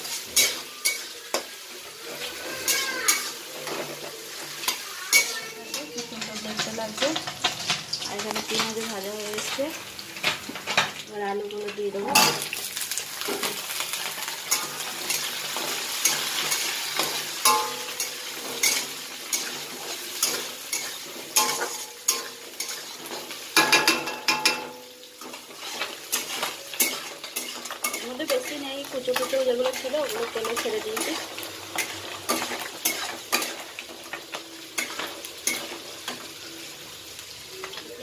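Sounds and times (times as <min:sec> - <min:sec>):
metal spatula scraping a pan: 0:00.0 - 0:10.8, 0:13.3 - 0:36.7
vegetables sizzling in hot oil: 0:00.0 - 0:38.0.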